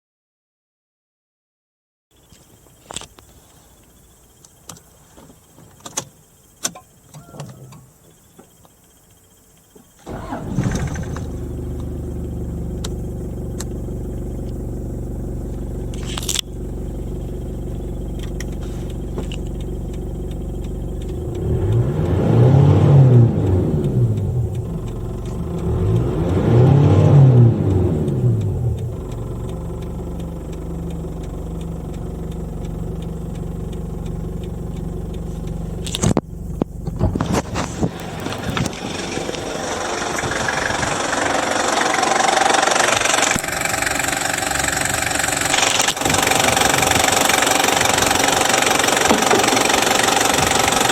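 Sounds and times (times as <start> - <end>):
diesel engine starting and idling: 6.0 - 50.9
engine revving: 10.0 - 50.9.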